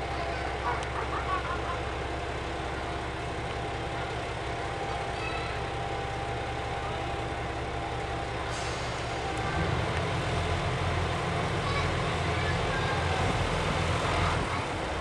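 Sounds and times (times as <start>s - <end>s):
diesel train engine idling: 0.0s - 15.0s.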